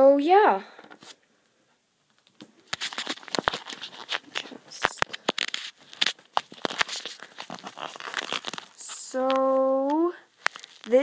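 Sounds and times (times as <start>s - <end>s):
recording device handled rustling: 2.1s - 11.0s.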